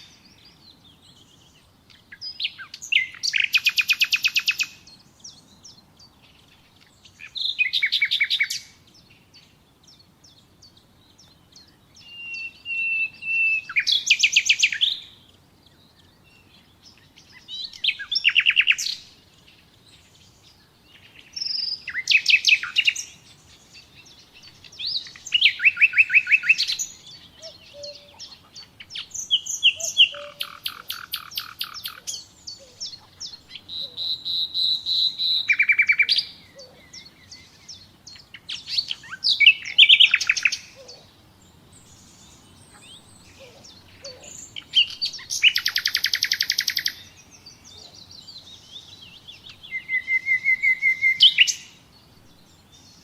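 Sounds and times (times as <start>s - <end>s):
nightingale singing: 0.0s - 53.0s.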